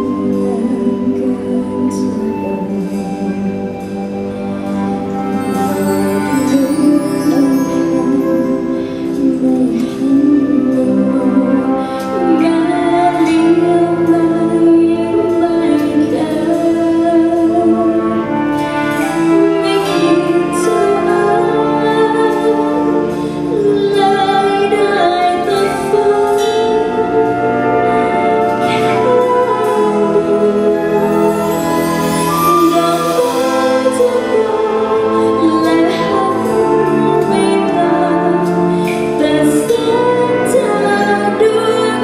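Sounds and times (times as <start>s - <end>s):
wind band playing slow piece: 0.0s - 42.0s
woman singing: 0.0s - 42.0s.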